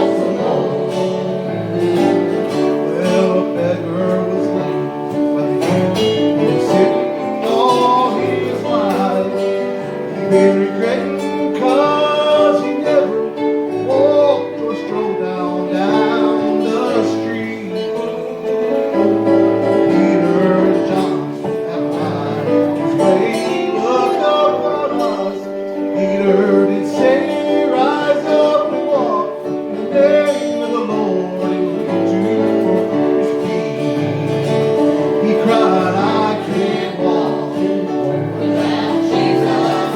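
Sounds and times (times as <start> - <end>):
acoustic guitar: 0.0 - 39.9
gospel singing: 0.0 - 39.9.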